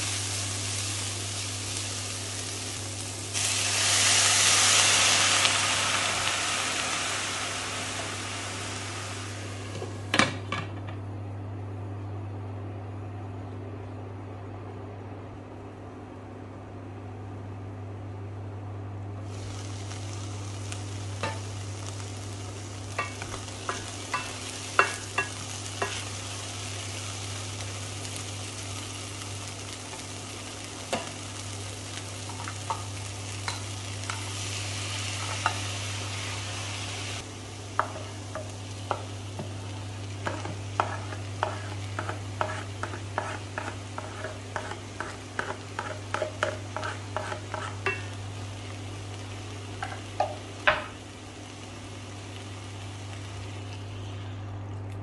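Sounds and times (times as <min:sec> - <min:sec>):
vegetables sizzling in a pot: 0:00.0 - 0:10.5, 0:19.2 - 0:54.5
electric cooktop hum: 0:00.0 - 0:55.0.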